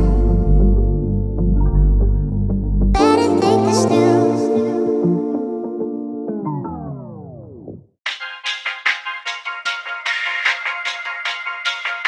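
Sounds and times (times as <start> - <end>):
electronic keyboard music: 0.0 - 12.0.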